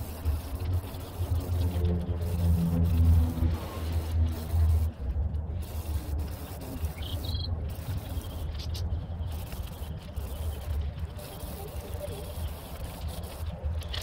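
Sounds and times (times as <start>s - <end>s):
spray paint can hissing: 0.0s - 14.0s
steady low hum: 0.0s - 14.0s.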